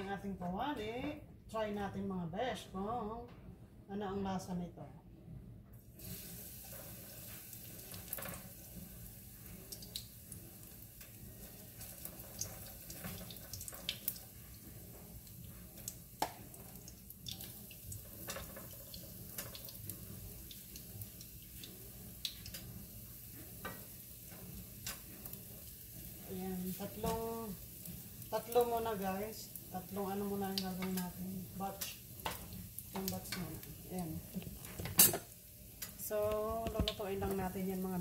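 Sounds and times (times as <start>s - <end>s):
hot oil sizzling: 5.8s - 38.0s.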